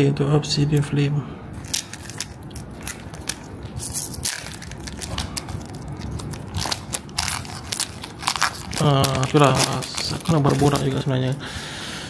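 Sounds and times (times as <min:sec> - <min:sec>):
foil wrapper crinkling and tearing: 0:01.6 - 0:11.4.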